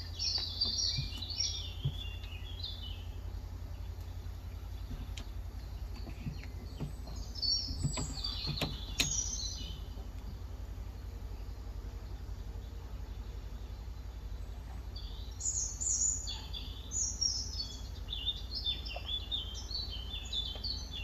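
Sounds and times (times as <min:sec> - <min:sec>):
songbirds chirping and singing: 0:00.0 - 0:21.0
steady low hum: 0:00.0 - 0:21.0.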